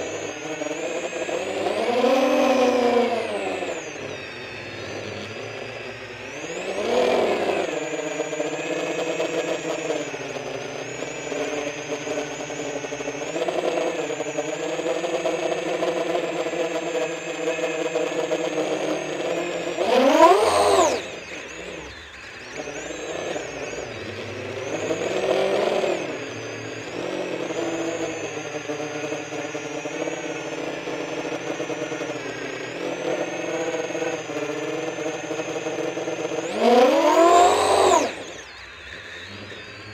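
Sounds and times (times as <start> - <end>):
quadcopter motors whirring: 0.0 - 39.9.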